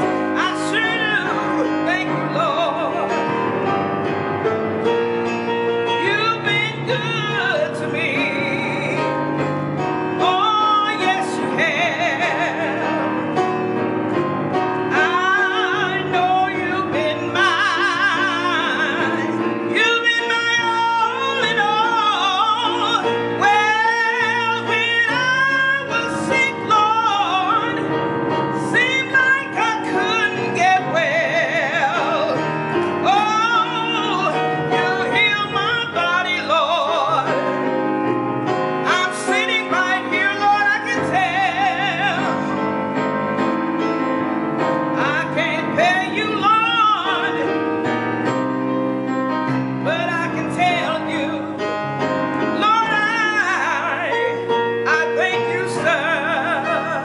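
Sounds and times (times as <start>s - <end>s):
electronic keyboard church music: 0.0s - 57.0s.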